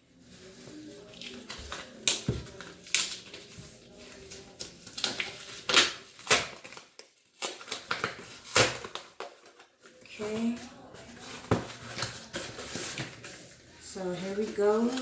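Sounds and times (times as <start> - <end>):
cardboard packaging clicks and scrapes: 0.2 - 13.6.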